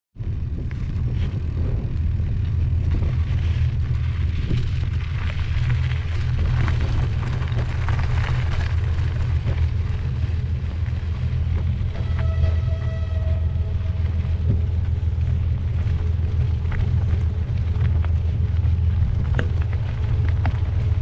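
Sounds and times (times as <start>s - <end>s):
train rumbling: 0.2s - 21.0s.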